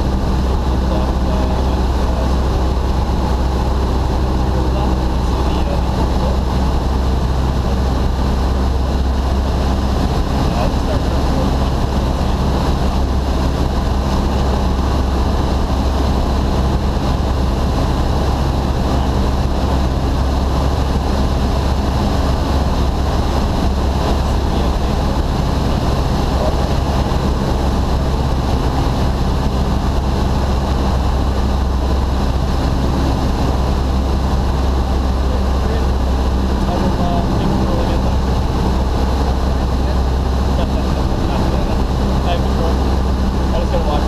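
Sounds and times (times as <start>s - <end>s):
aircraft engine and propeller drone: 0.0s - 44.0s
wind rush over airframe: 0.0s - 44.0s.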